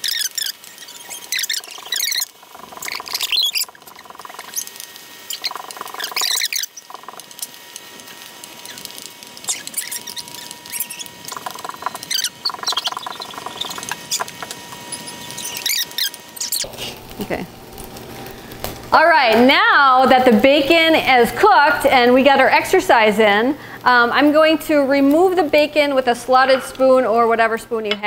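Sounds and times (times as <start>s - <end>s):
bacon frying and crackling: 0.0s - 27.6s
faint high whine: 0.0s - 28.0s.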